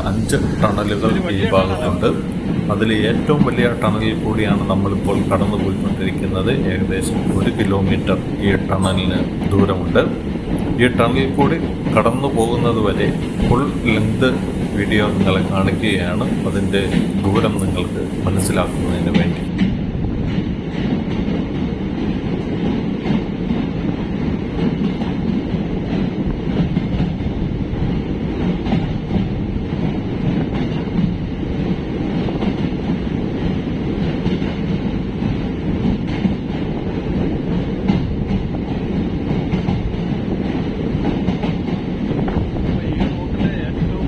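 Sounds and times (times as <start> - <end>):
train rumbling in a tunnel: 0.0 - 44.0.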